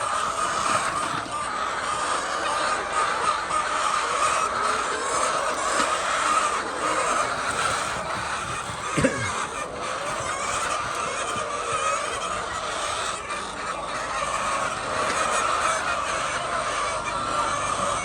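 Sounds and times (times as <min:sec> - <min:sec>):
flock of hens calling: 0:00.0 - 0:18.0.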